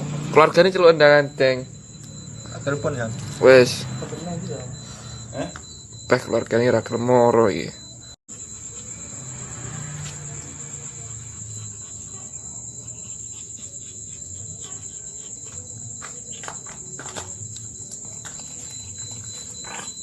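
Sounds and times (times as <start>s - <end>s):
high-pitched insect trill: 0.4s - 20.0s.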